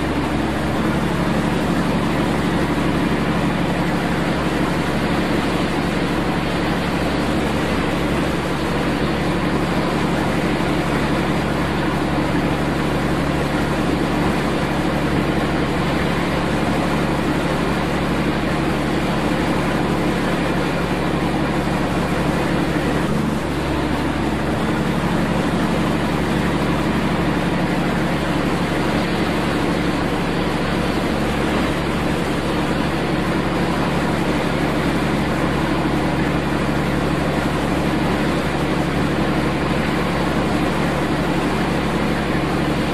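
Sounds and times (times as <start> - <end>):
ship machinery droning: 0.0 - 42.9.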